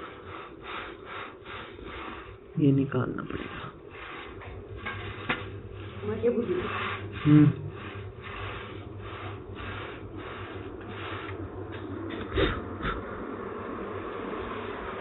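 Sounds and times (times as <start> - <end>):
rubbing strokes: 0.0 - 13.0
steady hiss: 0.0 - 15.0.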